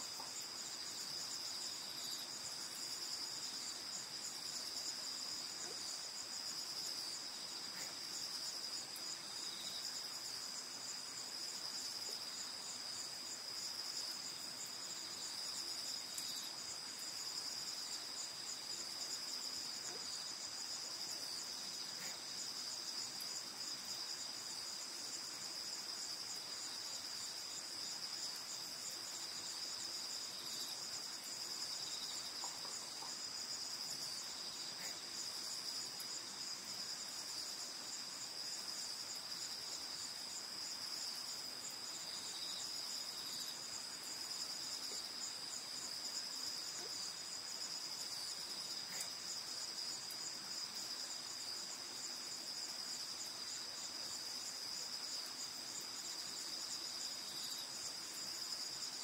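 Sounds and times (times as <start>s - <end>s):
high-pitched insect trill: 0.0s - 59.0s
rapidly pulsing insect trill: 0.0s - 59.0s.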